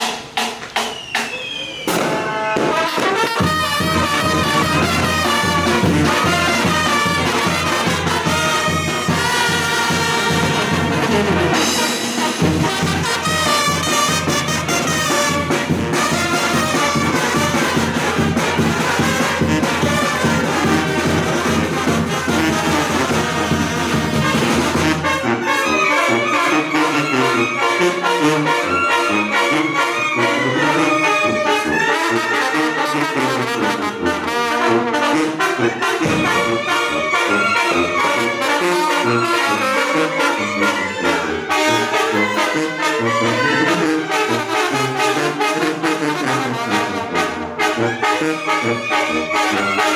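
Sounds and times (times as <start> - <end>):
brass band playing: 0.0 - 49.9.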